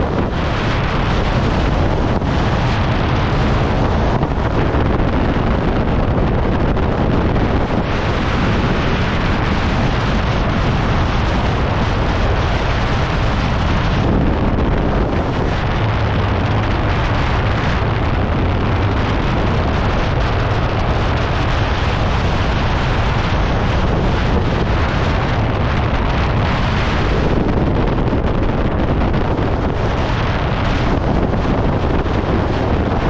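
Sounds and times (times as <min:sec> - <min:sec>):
wind blowing on microphone: 0:00.0 - 0:33.0.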